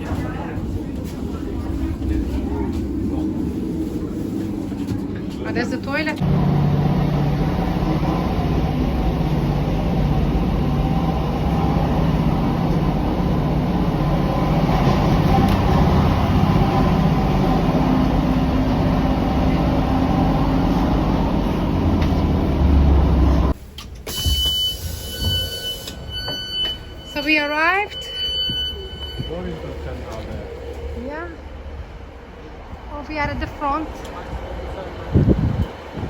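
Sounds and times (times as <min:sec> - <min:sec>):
train engine and wheels rumbling: 0:00.0 - 0:36.0.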